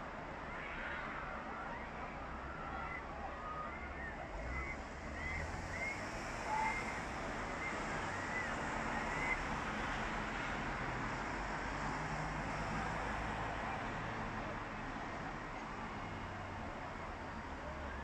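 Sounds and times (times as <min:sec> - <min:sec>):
distant crowd hubbub: 0:00.0 - 0:18.0.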